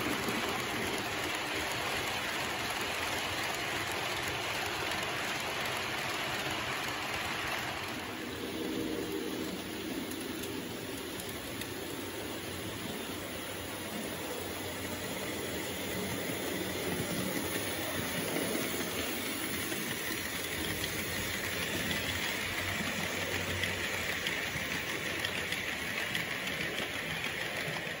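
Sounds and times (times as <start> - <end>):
model train wheels rumbling on rails: 0.0 - 28.0.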